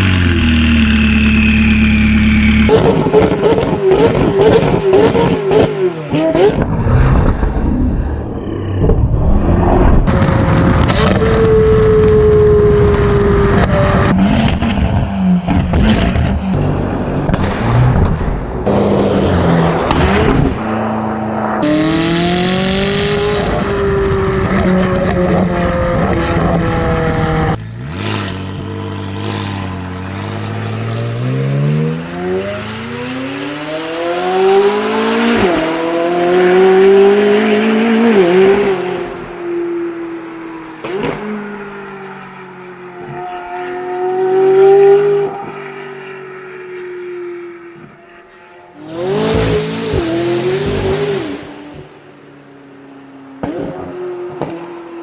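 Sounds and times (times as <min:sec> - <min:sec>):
loud sports car engine: 0:00.0 - 0:55.0.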